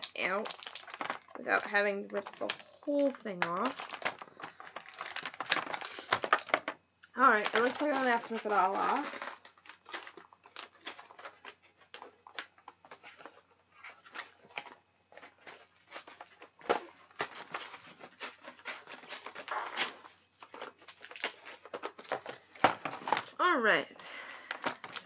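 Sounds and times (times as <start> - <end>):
plastic packaging tearing: 0.0 - 6.6, 7.3 - 23.4.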